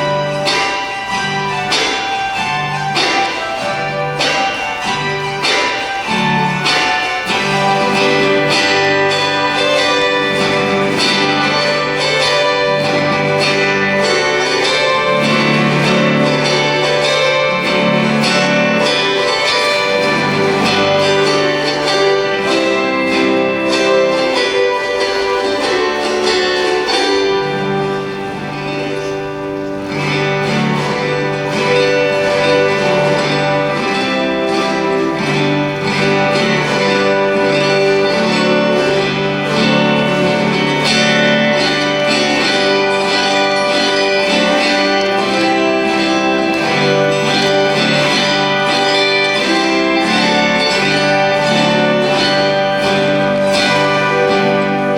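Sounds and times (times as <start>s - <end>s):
autoharps strumming chords: 0.0s - 54.9s.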